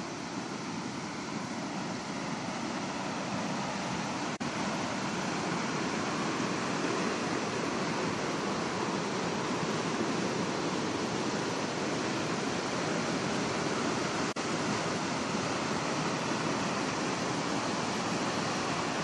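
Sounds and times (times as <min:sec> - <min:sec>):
floodwater roaring over edge: 0:00.0 - 0:19.0.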